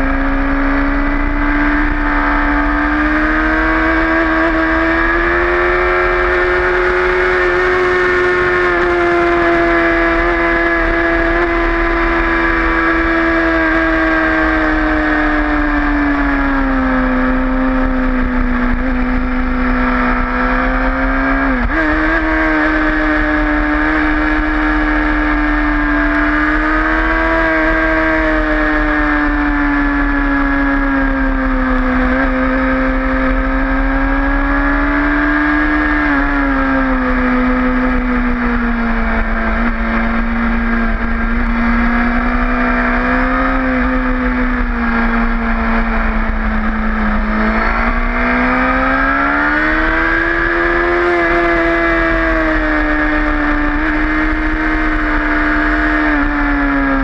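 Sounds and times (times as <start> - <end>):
motorcycle engine at high revs: 0.0 - 57.0
wind rush on microphone: 0.0 - 57.0.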